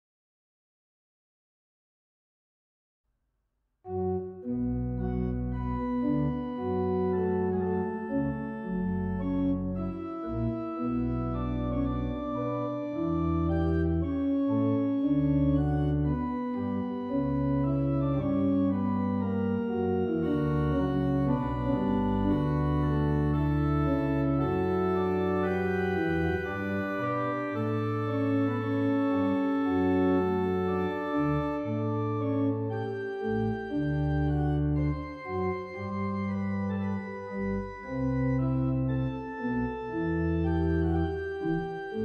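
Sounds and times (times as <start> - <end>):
organ chords: 3.9 - 42.0.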